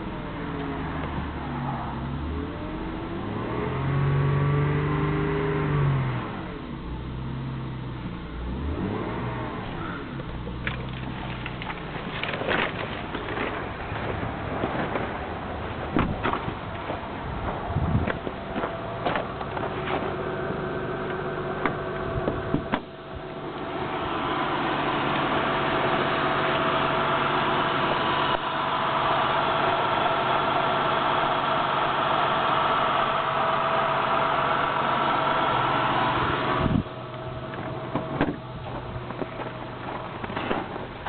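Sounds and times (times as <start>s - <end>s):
car engine idling: 0.0s - 3.4s, 9.5s - 41.0s.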